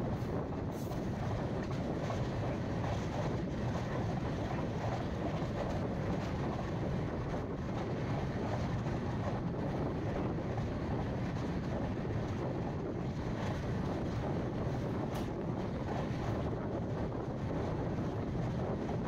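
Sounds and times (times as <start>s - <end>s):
train rumble from on board: 0.0s - 19.0s.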